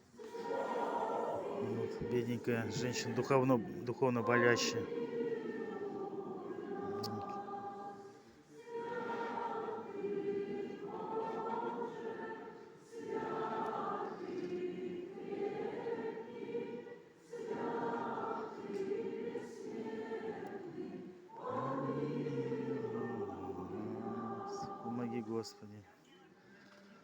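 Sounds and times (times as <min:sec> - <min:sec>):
choir chanting: 0:00.0 - 0:25.6.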